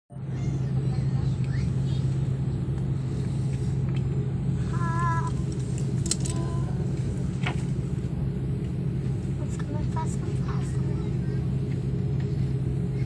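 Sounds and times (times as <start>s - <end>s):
airliner cabin engine drone: 0.2s - 13.0s.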